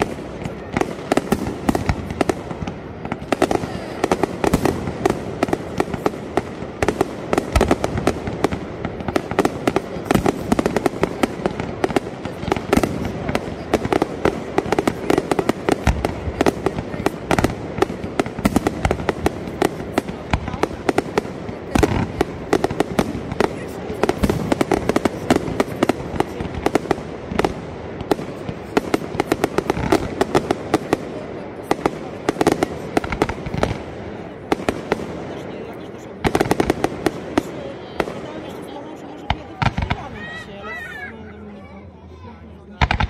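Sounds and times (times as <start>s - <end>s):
fireworks bangs and cracks: 0.0s - 40.8s, 42.6s - 43.0s.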